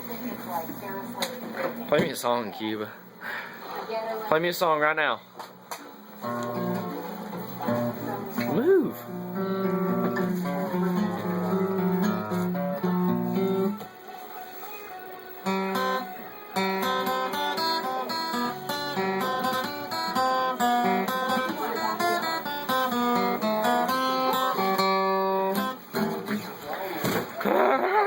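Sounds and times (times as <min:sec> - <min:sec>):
acoustic guitar: 0:00.0 - 0:28.0.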